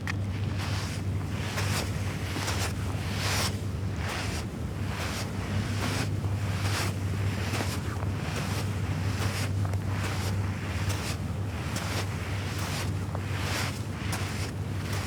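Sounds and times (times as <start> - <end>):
river waves lapping at shore: 1.5 - 15.0.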